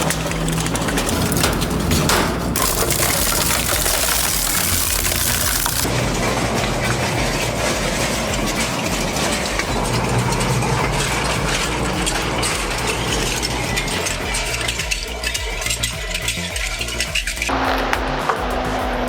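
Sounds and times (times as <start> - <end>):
industrial shredder grinding: 0.0 - 17.0.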